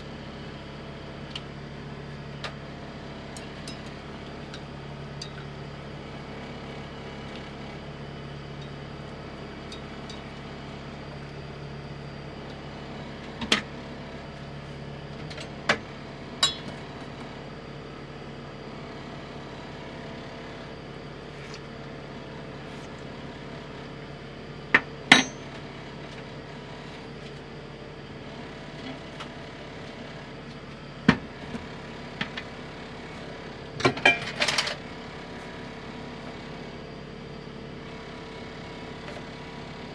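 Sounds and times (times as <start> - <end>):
stove hum: 0.0 - 39.9.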